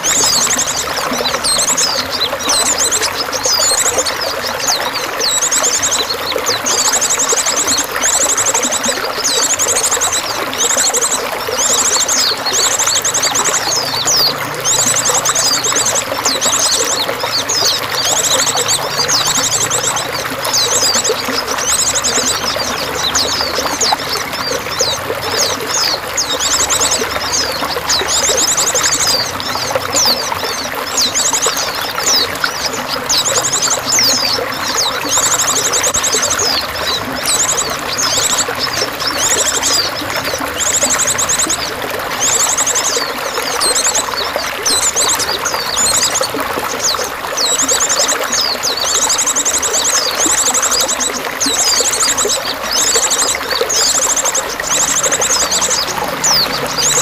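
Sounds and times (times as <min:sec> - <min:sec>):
songbirds chirping and singing: 0:00.0 - 0:57.0
trickling water: 0:00.0 - 0:57.0.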